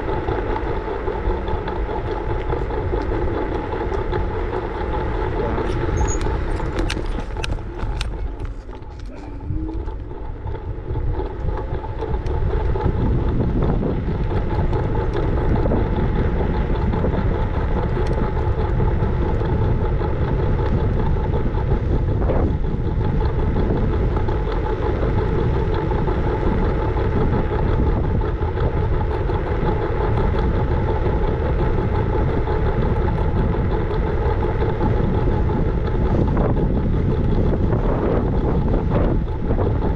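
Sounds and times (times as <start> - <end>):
scooter road rumble: 0.0 - 39.9
steady hum: 0.0 - 39.9.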